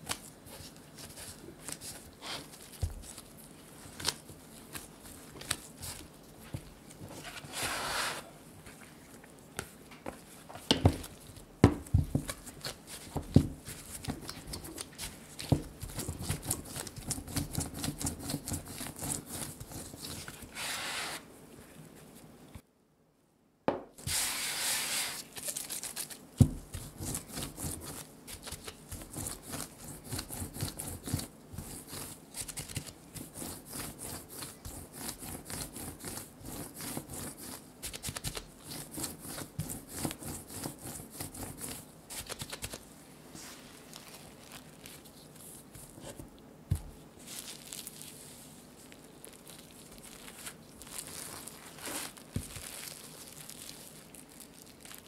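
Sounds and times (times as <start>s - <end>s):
hands kneading dough on wood: 0.0s - 22.6s, 23.7s - 55.0s.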